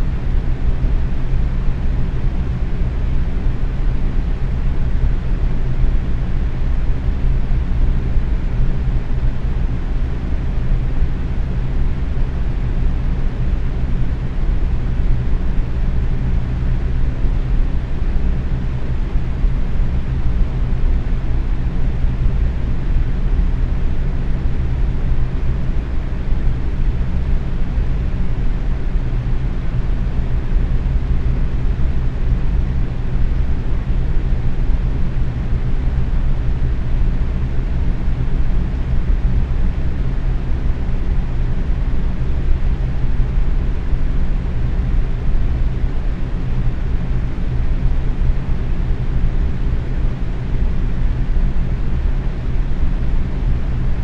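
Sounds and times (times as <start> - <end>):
low constant hum: 0.0 - 54.0.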